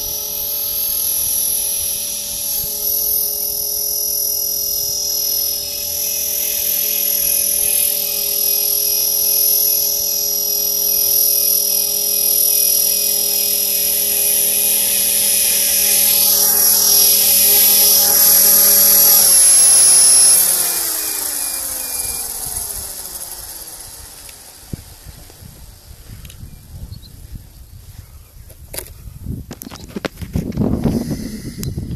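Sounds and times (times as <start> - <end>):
model helicopter motor whining: 0.0 - 27.8, 28.6 - 31.9.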